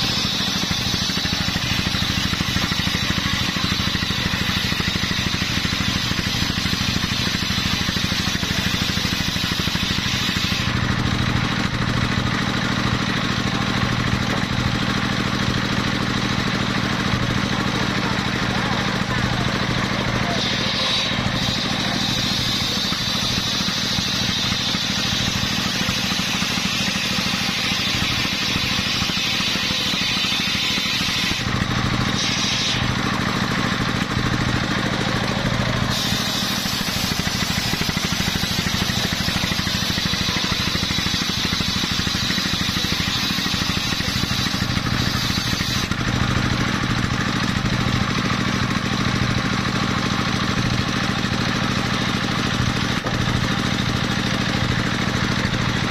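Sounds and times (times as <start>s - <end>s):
circular saw cutting wood: 0.0s - 55.9s
engine running under load: 0.0s - 55.9s.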